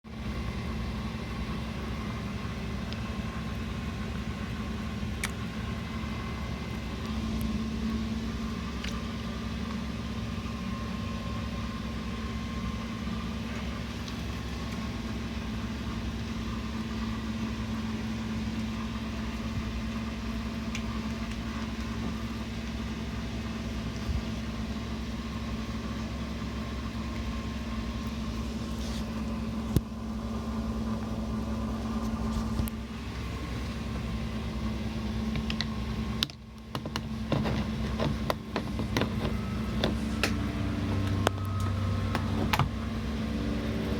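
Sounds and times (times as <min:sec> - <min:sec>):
marine engine humming: 0:00.0 - 0:43.9.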